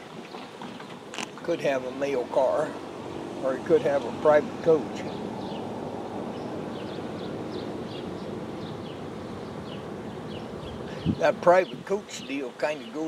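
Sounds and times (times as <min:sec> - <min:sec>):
outdoor background rumble: 0:00.0 - 0:12.9.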